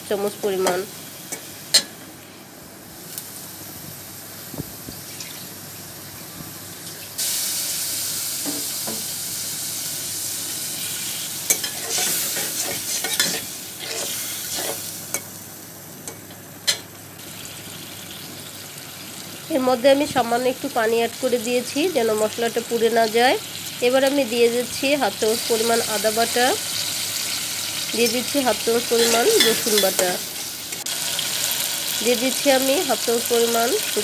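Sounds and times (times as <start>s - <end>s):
masala frying in oil: 3.0s - 34.0s
loud sizzle of water in oil: 3.1s - 15.8s, 16.8s - 34.0s.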